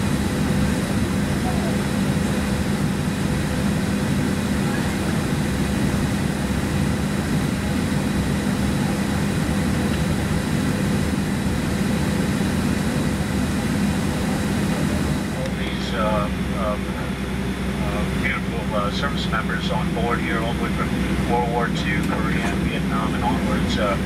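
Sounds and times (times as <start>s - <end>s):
cabin ventilation hum: 0.2s - 24.0s.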